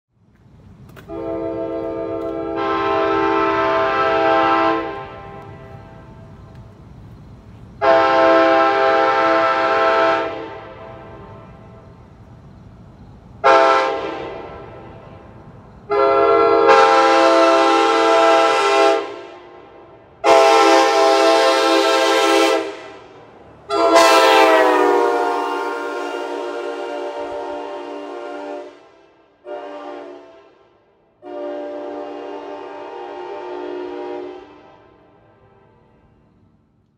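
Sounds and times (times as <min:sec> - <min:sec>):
train air horn blasts: 0:01.0 - 0:06.4, 0:07.8 - 0:11.8, 0:13.4 - 0:36.0.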